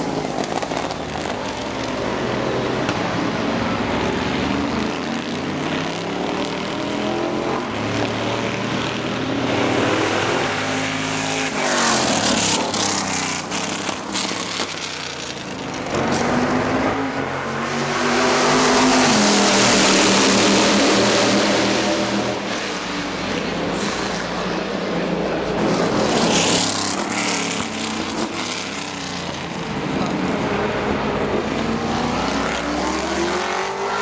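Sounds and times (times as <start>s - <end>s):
race car engines revving: 0.0s - 34.0s.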